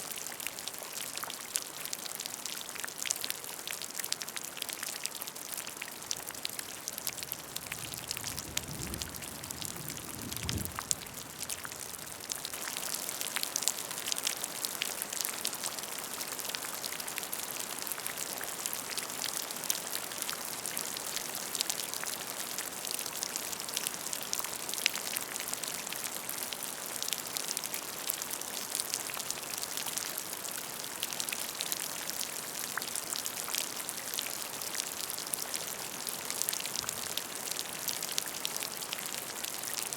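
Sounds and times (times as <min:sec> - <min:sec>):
rain splashing into puddle: 0:00.0 - 0:39.9.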